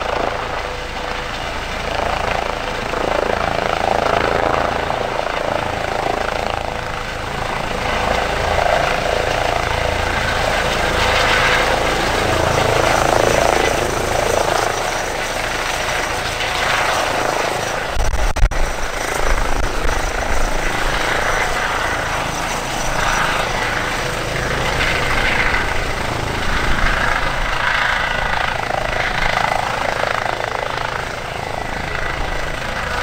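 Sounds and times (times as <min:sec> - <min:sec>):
helicopter hovering: 0:00.0 - 0:33.0.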